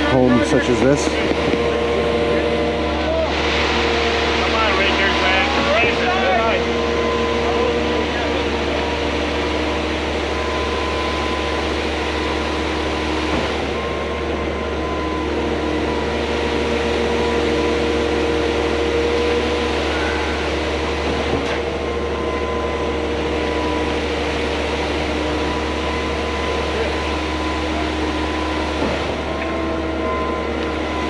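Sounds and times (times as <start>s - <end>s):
concrete pump drone: 0.0s - 31.0s.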